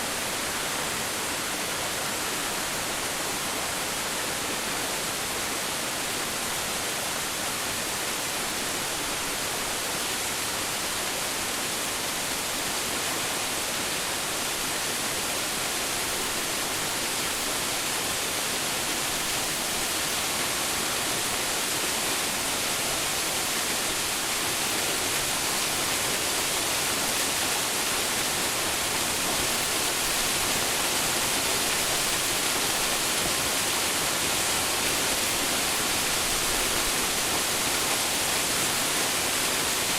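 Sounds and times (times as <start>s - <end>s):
waterfall crashing: 0.1s - 39.9s.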